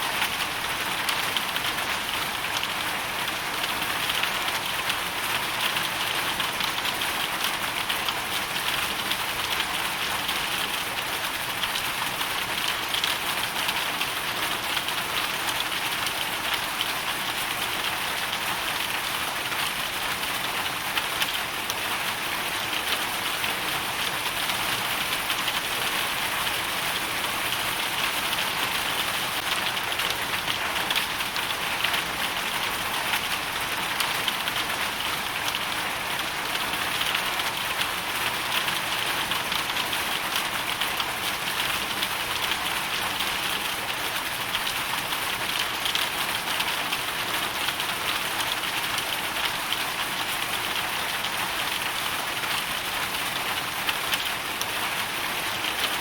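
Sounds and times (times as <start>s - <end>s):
hail and rain falling: 0.1s - 56.0s.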